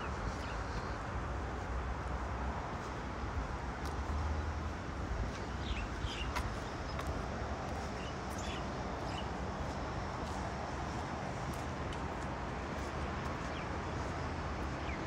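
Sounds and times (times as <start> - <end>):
rushing outdoor ambience: 0.0 - 15.0.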